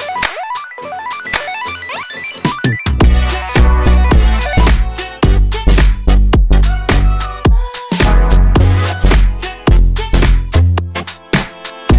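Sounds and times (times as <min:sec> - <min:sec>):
upbeat electronic music: 0:00.0 - 0:11.9.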